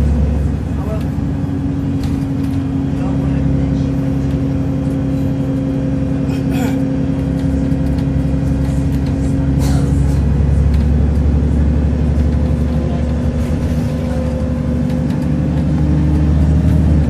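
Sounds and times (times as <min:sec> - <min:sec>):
bus body rattle: 0:00.0 - 0:17.0
bus engine drone: 0:00.0 - 0:17.0.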